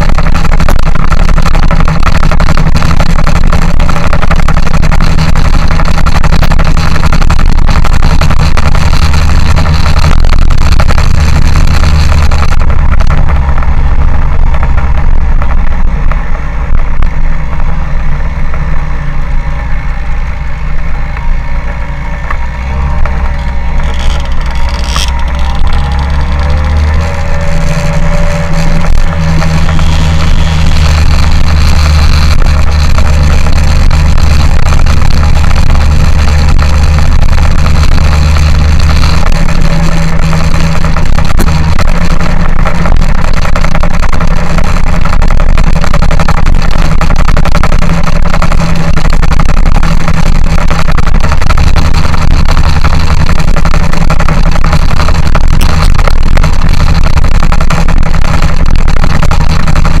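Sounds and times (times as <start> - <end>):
vehicle engine running loudly: 0.0 - 60.0.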